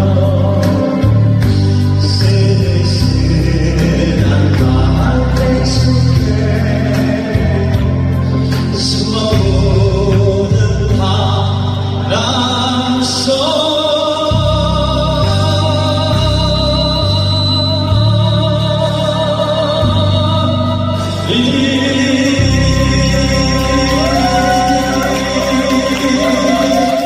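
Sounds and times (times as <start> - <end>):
backing track with steady beat: 0.0 - 27.0
person singing pop song: 0.0 - 27.0.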